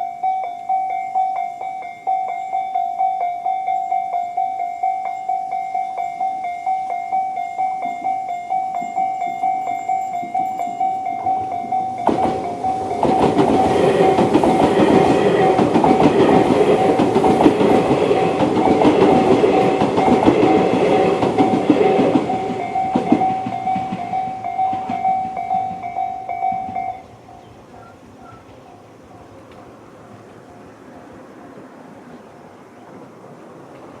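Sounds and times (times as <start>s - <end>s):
level crossing warning bells: 0.0s - 30.9s
train wheels clattering: 0.6s - 28.7s.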